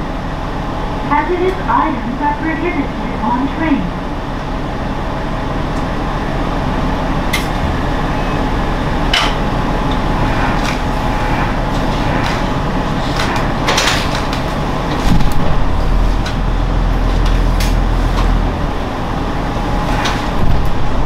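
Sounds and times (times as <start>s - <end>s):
low hum: 0.0s - 21.0s
railcar cabin rumble: 0.0s - 21.0s.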